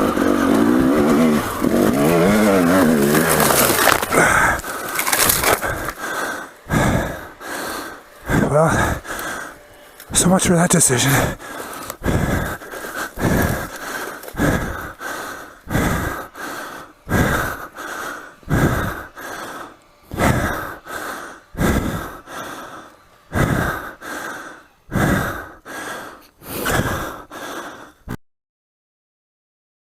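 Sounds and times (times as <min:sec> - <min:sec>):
person breathing heavily: 0:00.0 - 0:28.2.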